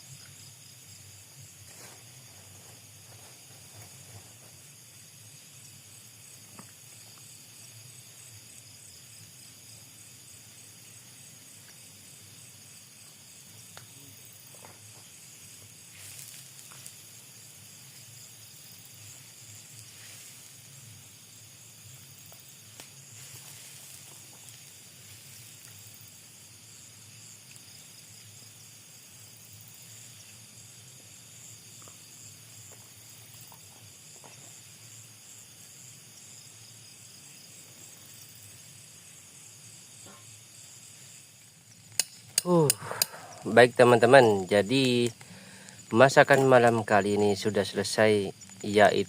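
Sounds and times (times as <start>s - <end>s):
night insects chirping: 0.0s - 49.0s.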